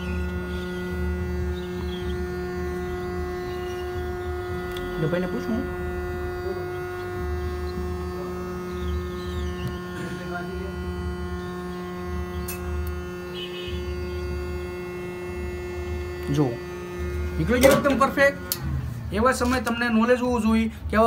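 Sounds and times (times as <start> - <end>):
hot air gun blowing with hum: 0.0 - 19.7.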